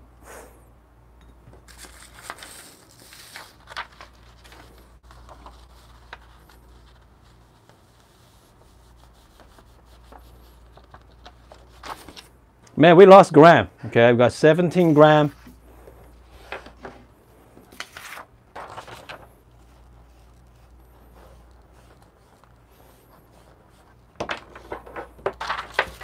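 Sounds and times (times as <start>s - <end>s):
paper rustling: 1.6s - 12.3s, 14.8s - 26.0s.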